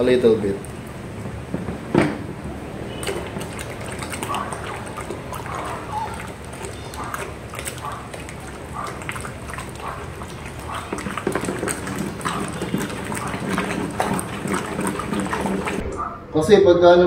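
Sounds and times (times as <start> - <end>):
stick stirring liquid in bucket: 0.0 - 16.0.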